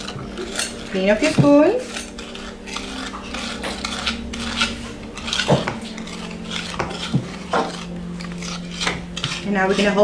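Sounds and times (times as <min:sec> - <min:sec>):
whisks and spoons clattering on bowls: 0:00.0 - 0:10.0.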